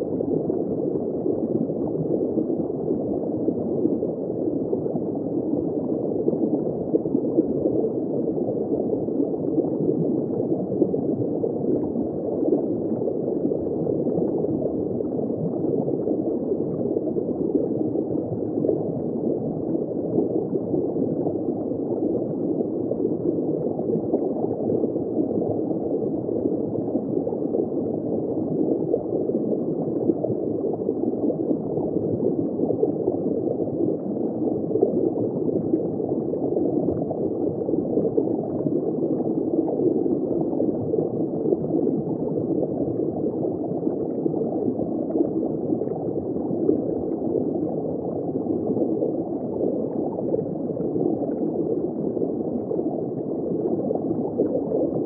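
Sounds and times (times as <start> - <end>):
aquarium water gurgling: 0.0 - 55.0.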